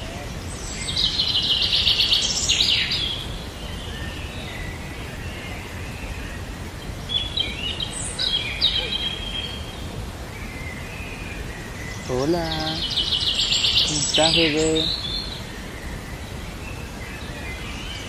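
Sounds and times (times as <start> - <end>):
low outdoor background noise: 0.0 - 18.0
small birds chirping: 0.0 - 18.0.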